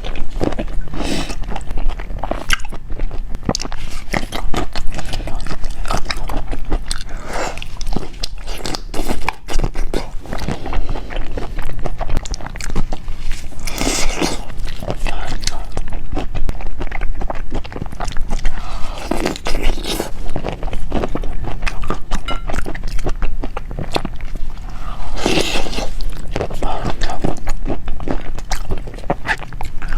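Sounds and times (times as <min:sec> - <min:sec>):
person chewing crunchy food: 0:00.0 - 0:29.9.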